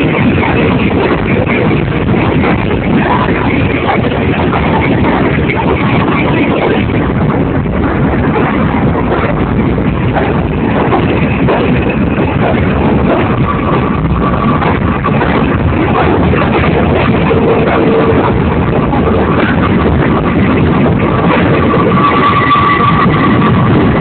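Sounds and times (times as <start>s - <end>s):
subway train rumbling on track: 0.0s - 24.0s.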